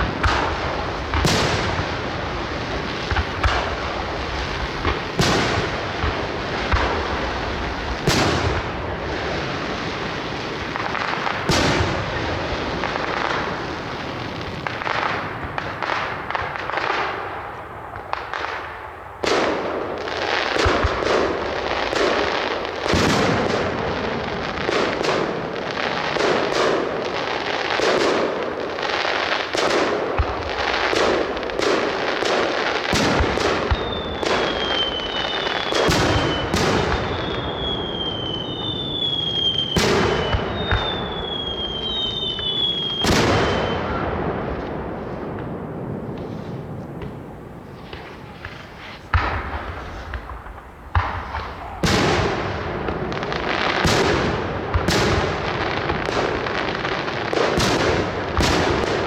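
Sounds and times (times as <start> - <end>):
firework bursts and bangs: 0.0 - 59.0
whistling fireworks: 0.0 - 59.0.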